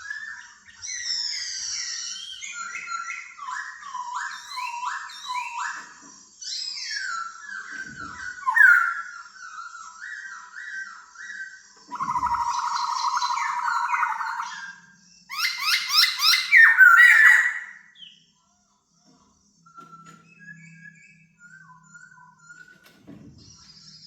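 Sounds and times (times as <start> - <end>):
bird singing: 0.0 - 18.5, 19.5 - 24.0.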